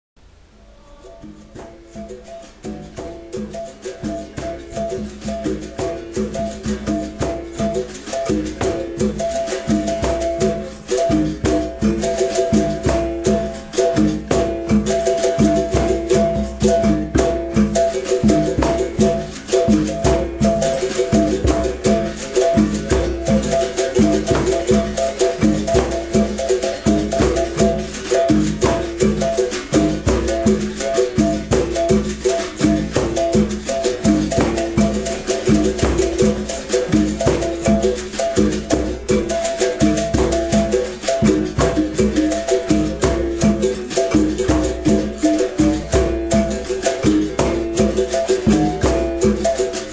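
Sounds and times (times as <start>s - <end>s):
shaker rattling: 0.9s - 49.9s.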